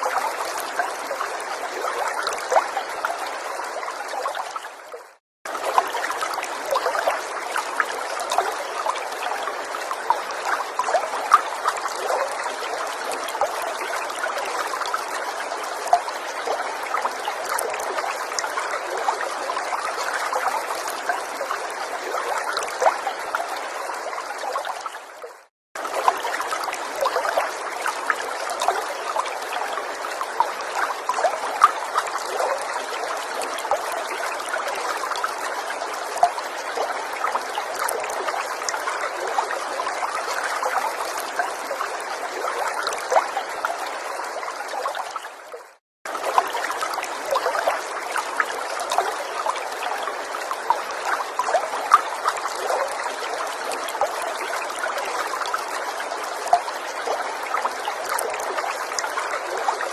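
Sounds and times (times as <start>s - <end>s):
small water splashes: 0.0s - 59.9s
stream babbling over stones: 0.0s - 59.9s.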